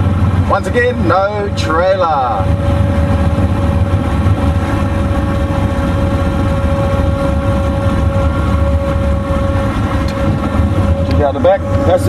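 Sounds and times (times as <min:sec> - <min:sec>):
car engine deep drone: 0:00.0 - 0:12.0
road noise: 0:00.0 - 0:12.0
steady high tone: 0:00.4 - 0:12.0.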